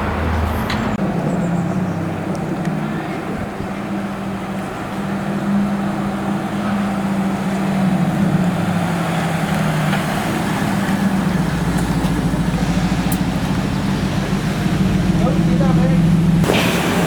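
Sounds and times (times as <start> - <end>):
car engine running at low revs: 0.0 - 17.0
deeper rumble: 0.0 - 17.0.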